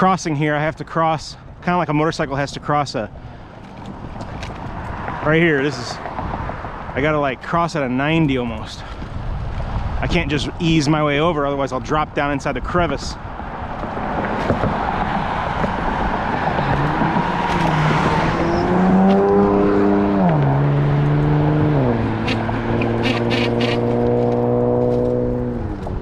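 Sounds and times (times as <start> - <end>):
wind noise on microphone: 3.7 - 7.4, 8.0 - 26.0.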